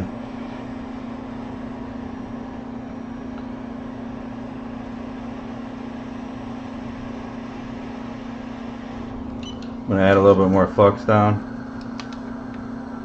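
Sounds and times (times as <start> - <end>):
hot air station blowing: 0.0 - 13.0.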